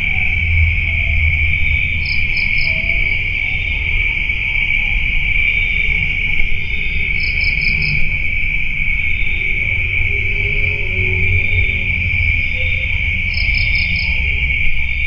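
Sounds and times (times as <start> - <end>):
insects chirring: 0.0 - 15.0
low rumble: 0.0 - 15.0.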